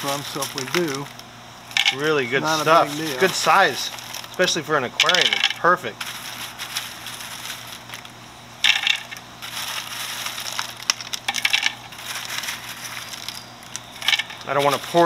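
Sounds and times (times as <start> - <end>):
filter pellets clinking and clattering: 0.0 - 15.0.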